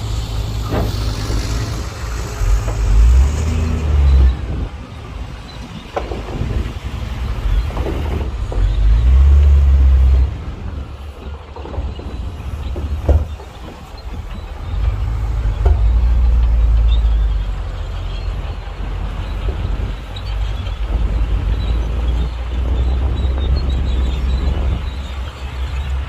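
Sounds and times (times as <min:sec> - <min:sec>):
heavy diesel engines rumbling: 0:00.0 - 0:26.0.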